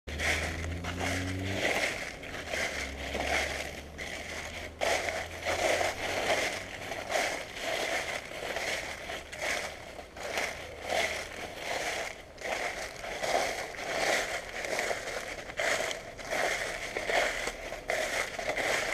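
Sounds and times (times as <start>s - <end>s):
footsteps crunching dry leaves: 0.1s - 18.9s.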